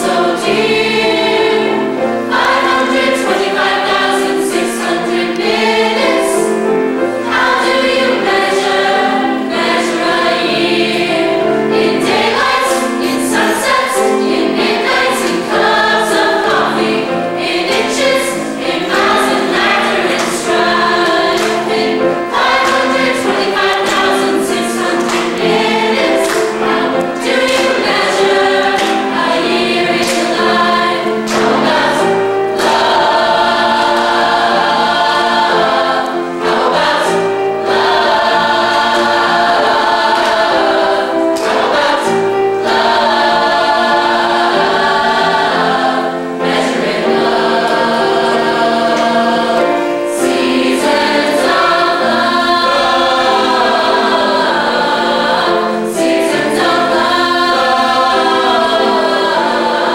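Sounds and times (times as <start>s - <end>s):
chorus singing in harmony: 0.0s - 59.9s.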